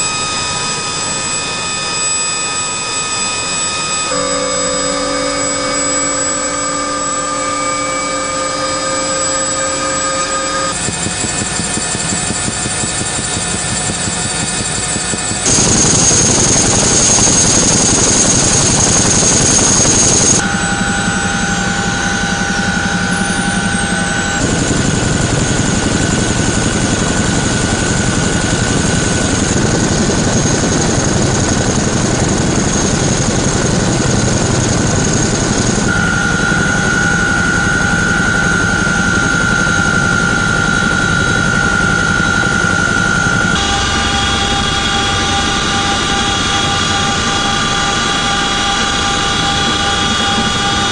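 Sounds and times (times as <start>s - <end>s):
helicopter engines and rotors: 0.0s - 50.9s.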